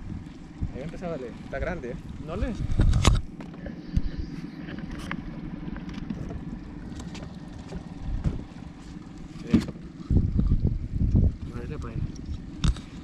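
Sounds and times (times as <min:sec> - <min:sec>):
wind buffeting microphone: 0:00.0 - 0:08.8, 0:09.5 - 0:13.0.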